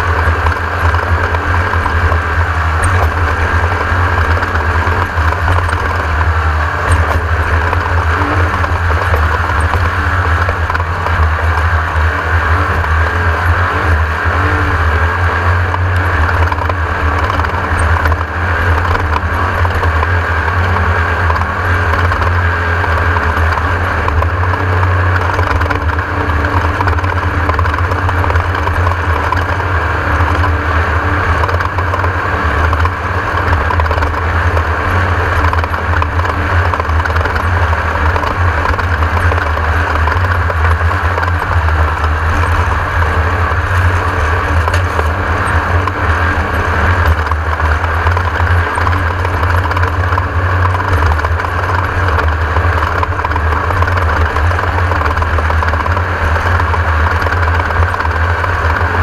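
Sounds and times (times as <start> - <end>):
drivetrain and terrain noise: 0.0 - 59.0
race car engine running hard: 0.0 - 59.0.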